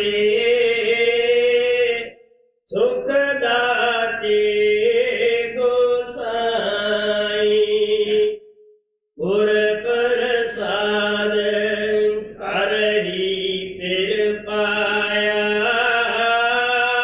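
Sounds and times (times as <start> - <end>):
person singing devotional song: 0.0 - 8.5, 9.2 - 17.0.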